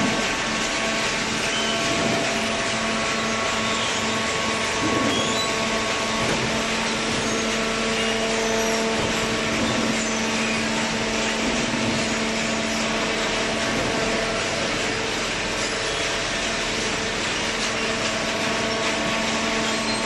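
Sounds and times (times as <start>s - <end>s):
hydraulic machine humming and whining: 0.0s - 20.0s.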